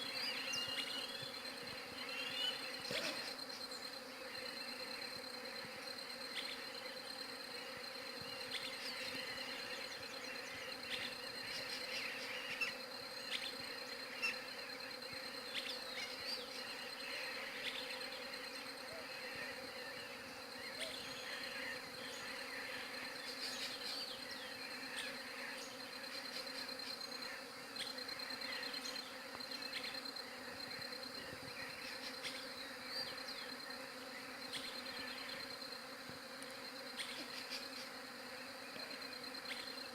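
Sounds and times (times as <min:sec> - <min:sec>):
bees humming: 0:00.0 - 0:39.9.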